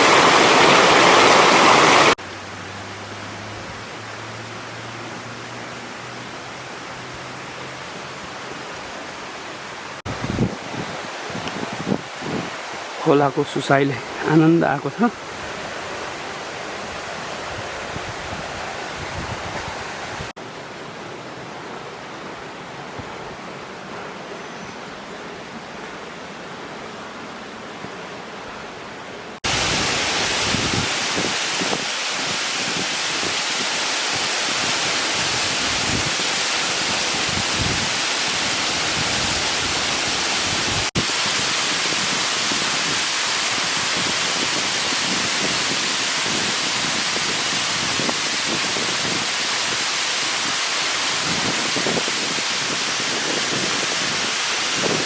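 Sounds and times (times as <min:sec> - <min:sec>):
waterfall and stream rushing: 0:00.0 - 0:55.0.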